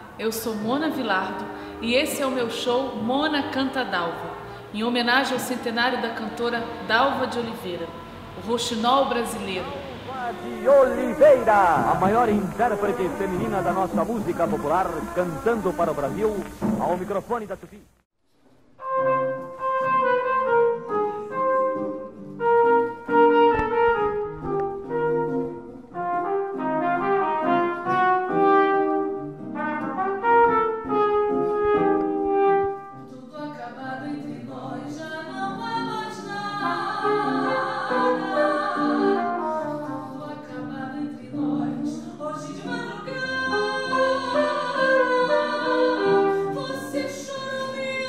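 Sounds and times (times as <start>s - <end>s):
classical guitar: 0.0s - 17.3s, 18.3s - 48.0s
trumpet melody: 0.0s - 17.6s, 18.8s - 33.4s, 35.3s - 40.8s, 42.8s - 48.0s.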